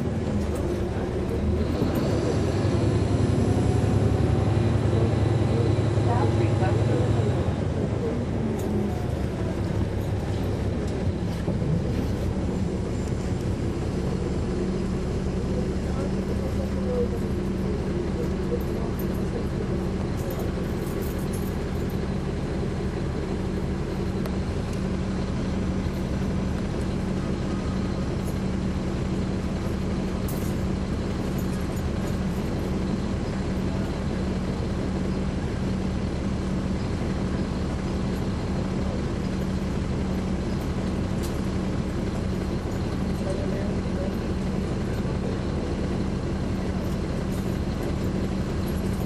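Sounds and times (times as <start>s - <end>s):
bus diesel engine drone: 0.0s - 49.0s.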